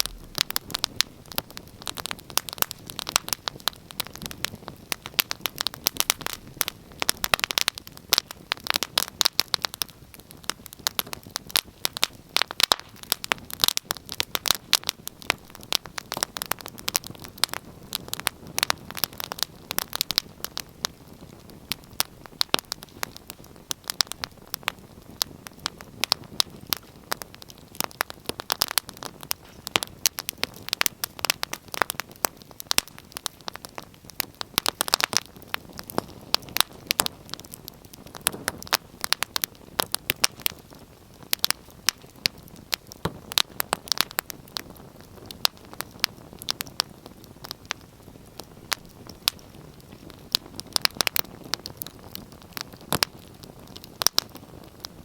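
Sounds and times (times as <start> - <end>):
wood fire popping and snapping: 0.0 - 55.0.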